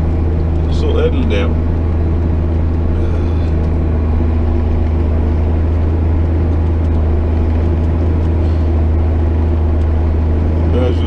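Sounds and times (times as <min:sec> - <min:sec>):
tractor engine running under load: 0:00.0 - 0:11.0.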